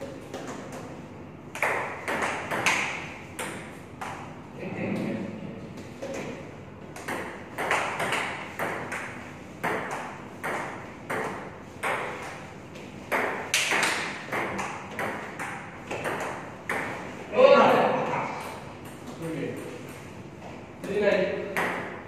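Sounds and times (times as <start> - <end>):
table tennis rally: 0.0 - 20.2, 20.8 - 22.0.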